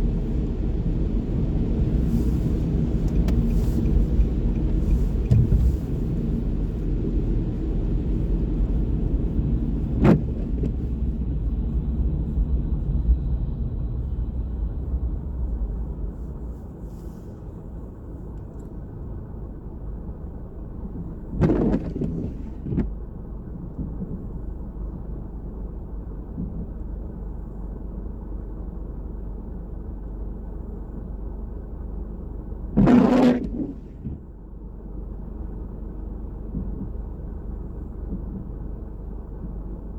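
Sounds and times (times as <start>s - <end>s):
city traffic rumble: 0.0s - 39.9s.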